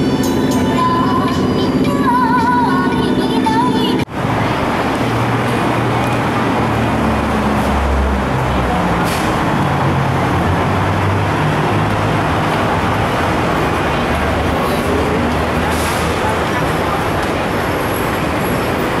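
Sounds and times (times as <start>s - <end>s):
road traffic engine hum: 0.0s - 19.0s
vehicles passing: 0.0s - 19.0s.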